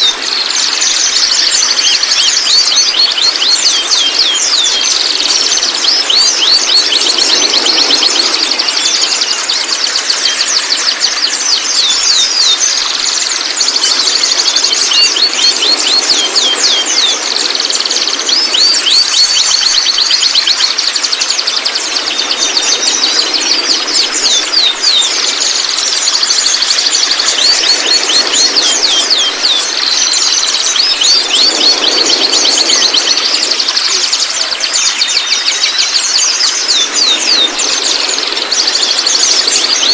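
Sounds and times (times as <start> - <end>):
bird chattering and trilling: 0.0 - 39.9.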